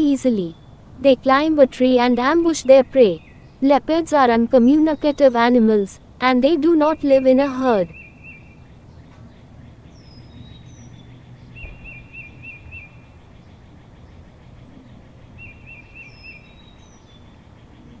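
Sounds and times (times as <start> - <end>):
low steady background hum: 0.0 - 18.0
songbird singing trills: 0.0 - 18.0.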